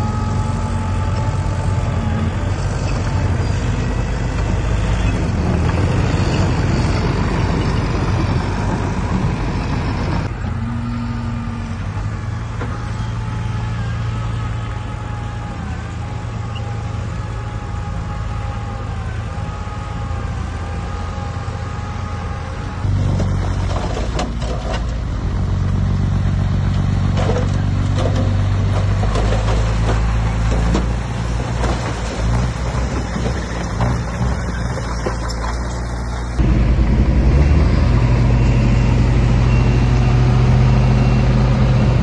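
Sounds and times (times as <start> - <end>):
heavy machinery diesel engines running: 0.0 - 42.0.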